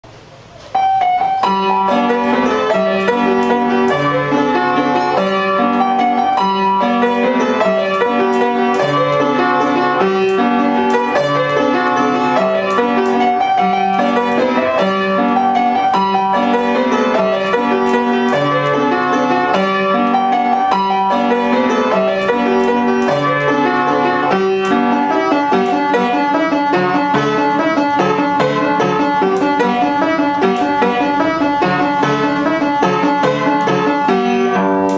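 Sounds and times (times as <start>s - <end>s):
waltz on piano: 0.1s - 34.9s.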